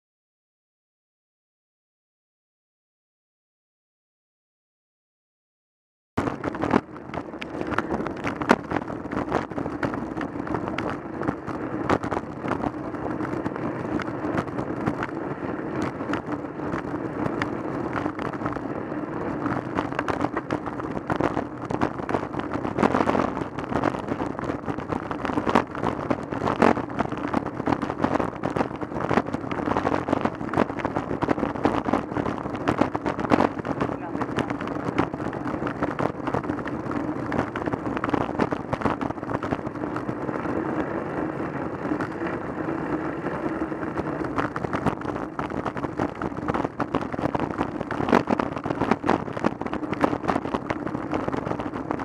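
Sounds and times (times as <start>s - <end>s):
bike tyres rumbling on tarmac: 6.2s - 52.0s.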